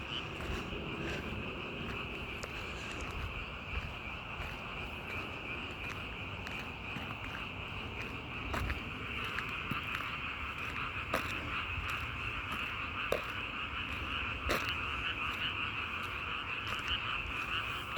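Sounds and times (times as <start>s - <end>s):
frogs calling in chorus: 0.0s - 17.9s.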